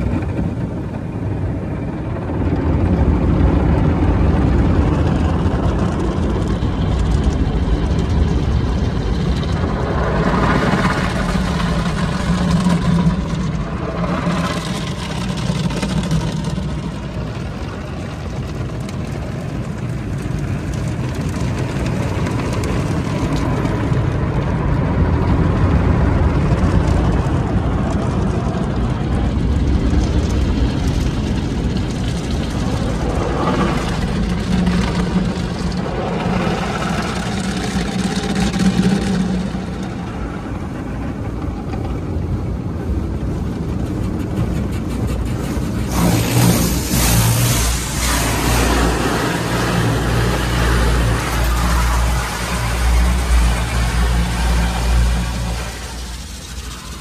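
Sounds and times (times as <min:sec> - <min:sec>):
low hum of wash equipment: 0:00.0 - 0:57.0
low rumble: 0:00.0 - 0:57.0
water jets spraying on car: 0:00.0 - 0:57.0.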